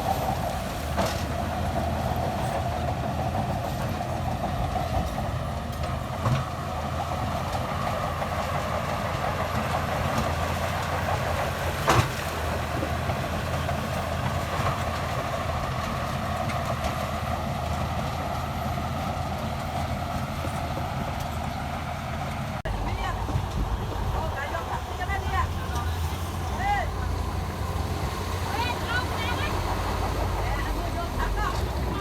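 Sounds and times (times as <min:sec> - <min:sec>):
bulldozer diesel engine running: 0:00.0 - 0:32.0
tracks clattering: 0:00.0 - 0:32.0.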